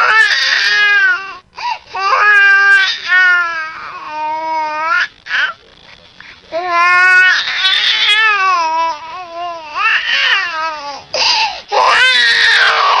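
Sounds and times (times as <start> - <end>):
infant crying: 0.0 - 5.6, 6.5 - 13.0.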